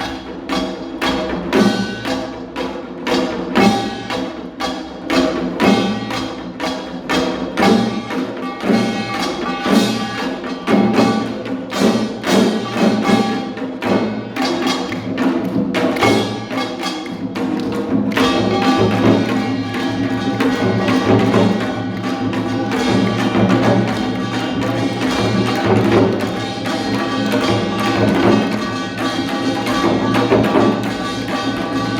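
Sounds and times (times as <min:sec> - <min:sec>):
rapid percussion strikes: 0:00.0 - 0:31.9
sustained pitched instruments: 0:00.0 - 0:31.9.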